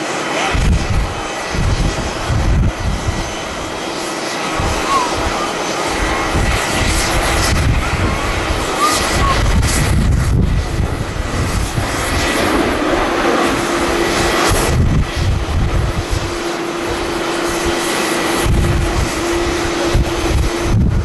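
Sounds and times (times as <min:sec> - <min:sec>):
jet engines roaring: 0:00.0 - 0:21.0
wind buffeting microphone: 0:00.4 - 0:21.0.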